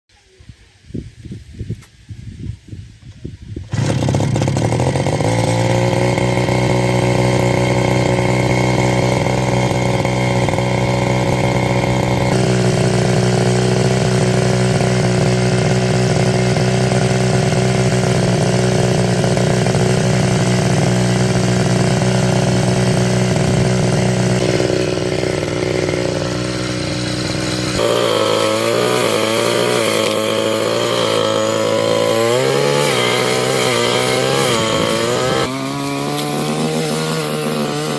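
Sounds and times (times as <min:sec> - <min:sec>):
brush cutter engine running: 0:03.6 - 0:37.9.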